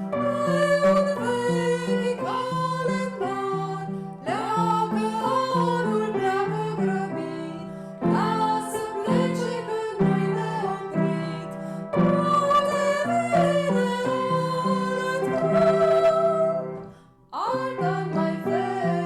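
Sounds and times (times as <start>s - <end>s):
person singing a carol: 0.0s - 16.8s, 17.4s - 19.0s.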